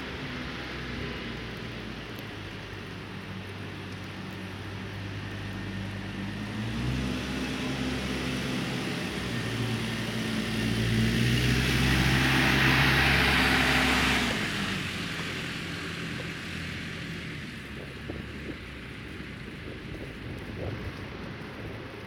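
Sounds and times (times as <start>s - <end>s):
vehicle engine droning: 0.0s - 22.0s
vehicle passing on snowy road: 0.0s - 22.0s.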